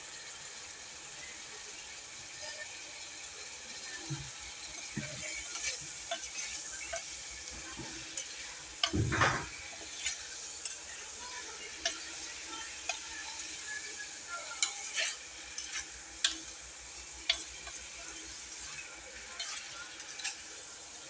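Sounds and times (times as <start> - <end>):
food sizzling in a pan: 0.0 - 21.0
metal spoon scraping a pan: 3.8 - 21.0.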